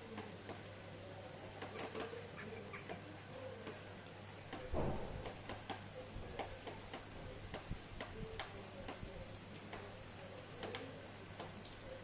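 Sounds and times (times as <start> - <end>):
raindrops ticking: 0.0 - 12.0.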